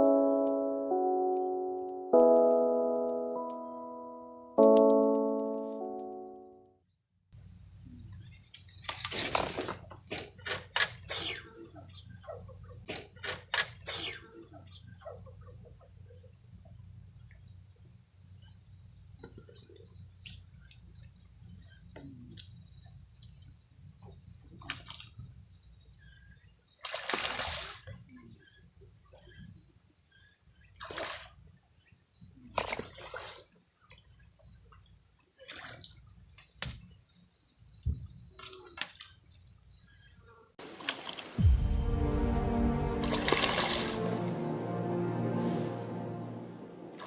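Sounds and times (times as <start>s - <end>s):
high insect trill: 0.0s - 32.5s, 33.4s - 47.0s.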